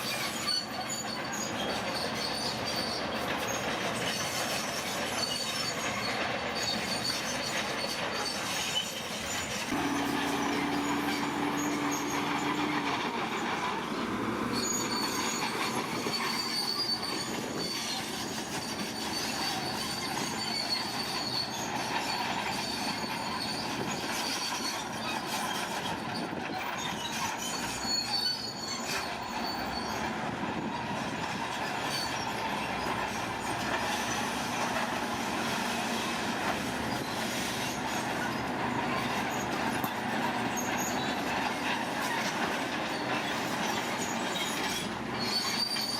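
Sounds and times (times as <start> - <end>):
high squeal: 0.0 - 45.9
steel tracks squealing and clanking: 0.0 - 45.9
bulldozer engine running: 0.1 - 28.5, 29.1 - 45.9.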